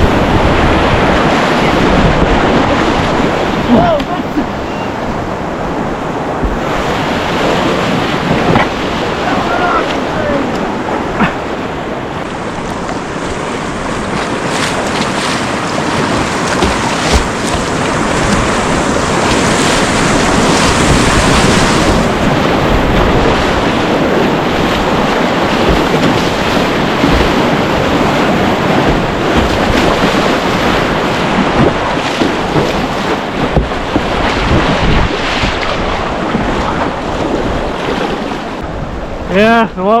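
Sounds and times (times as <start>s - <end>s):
knocks and splashes: 0.0s - 38.6s
rushing water: 0.0s - 40.0s
wind buffeting microphone: 0.0s - 40.0s.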